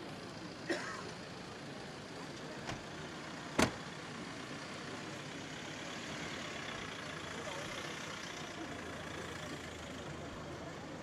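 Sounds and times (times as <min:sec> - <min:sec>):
traffic: 0:00.0 - 0:11.0.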